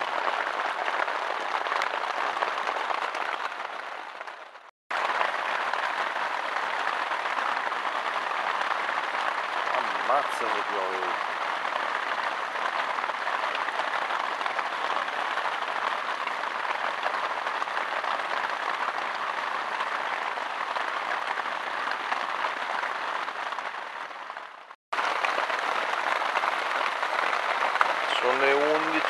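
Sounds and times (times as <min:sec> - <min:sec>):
heavy rain on a tent: 0:00.0 - 0:29.0.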